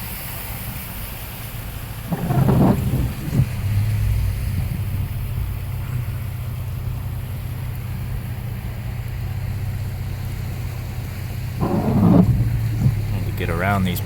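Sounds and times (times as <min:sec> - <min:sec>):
engine and road drone: 0:00.0 - 0:14.0.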